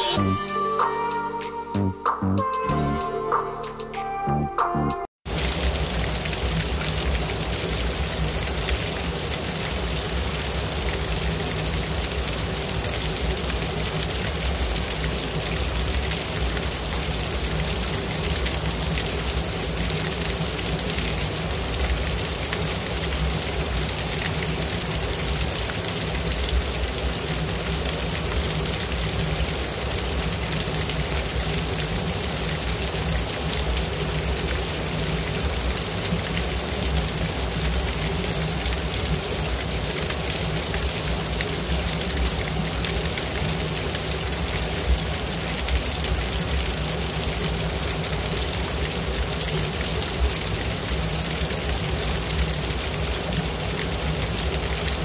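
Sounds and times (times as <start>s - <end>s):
waterfall splashing on stone: 5.3s - 55.0s.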